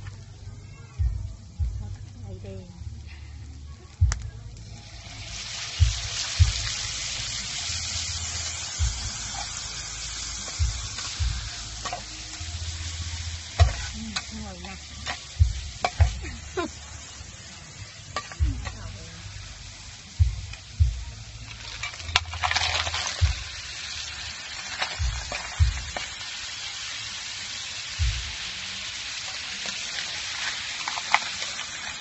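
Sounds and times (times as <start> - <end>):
sauce sizzling in a hot wok: 0.0 - 32.0.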